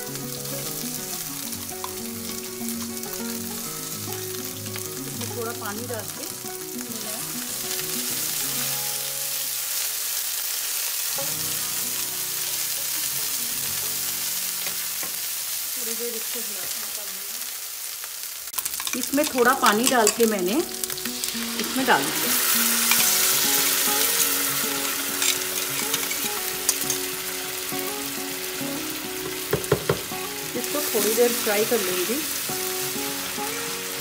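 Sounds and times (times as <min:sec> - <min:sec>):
paste sizzling in a pan: 0:00.0 - 0:34.0.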